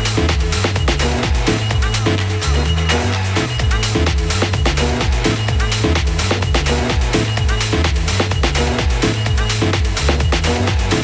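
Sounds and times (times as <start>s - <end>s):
electronic house music: 0.0s - 11.0s.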